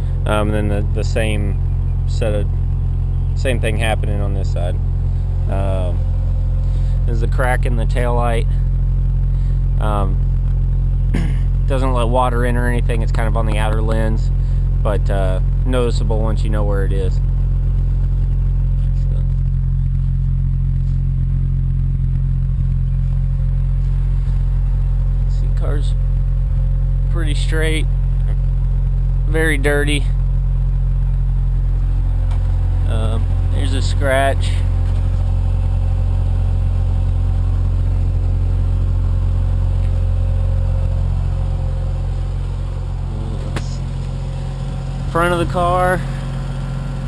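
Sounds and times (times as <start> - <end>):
rotary engine idling: 0.0 - 47.0.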